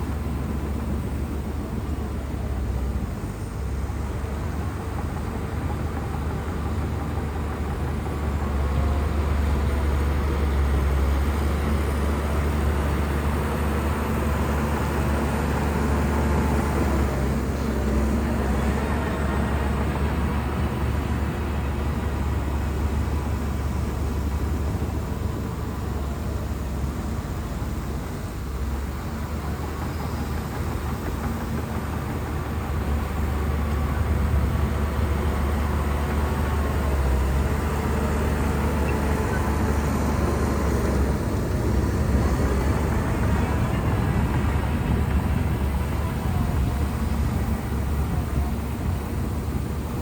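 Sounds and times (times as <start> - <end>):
diesel engine rumbling: 0.0 - 50.0.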